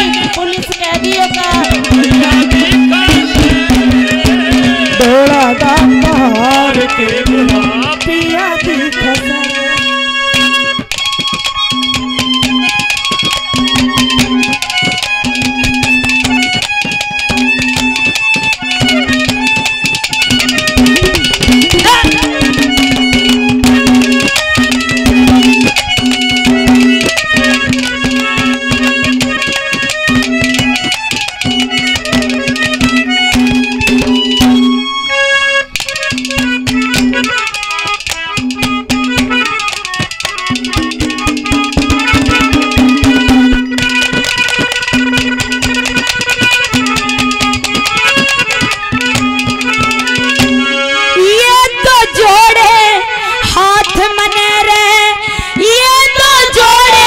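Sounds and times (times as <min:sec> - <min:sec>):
fast dense drumming: 0:00.0 - 0:34.7, 0:38.4 - 0:50.6
reed melody: 0:00.0 - 0:56.8.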